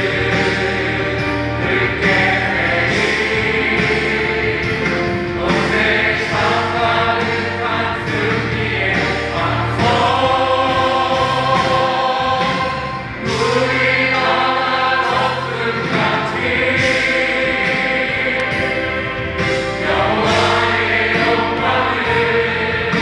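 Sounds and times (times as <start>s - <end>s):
group singing worship song: 0.0s - 23.0s
steady low backing music: 0.0s - 23.0s.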